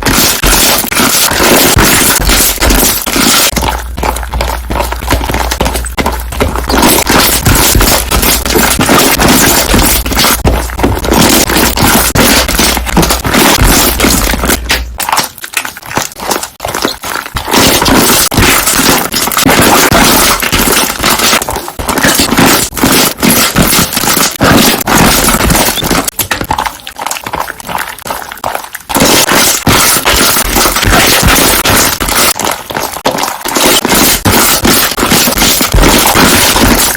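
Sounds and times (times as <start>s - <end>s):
slime bubbles popping: 0.0s - 36.9s.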